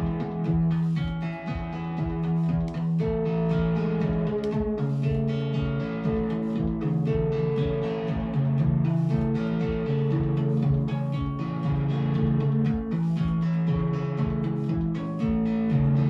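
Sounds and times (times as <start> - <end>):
plucked synth notes: 0.0 - 16.0.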